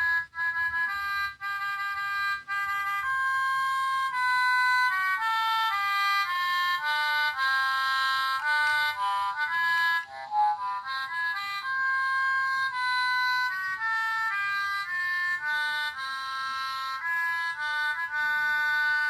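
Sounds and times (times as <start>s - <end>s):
toy playing reedy melody: 0.0s - 19.0s.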